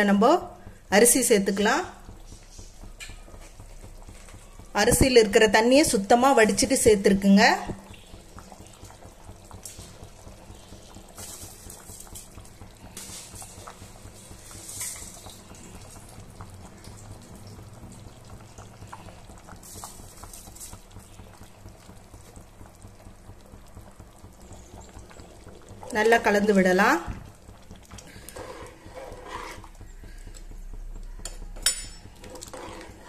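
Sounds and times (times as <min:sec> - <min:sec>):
broth boiling and bubbling: 0:00.0 - 0:33.0.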